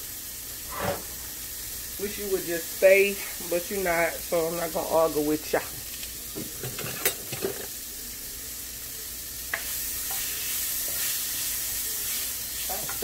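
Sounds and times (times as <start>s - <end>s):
asparagus sizzling in skillet: 0.0s - 13.0s.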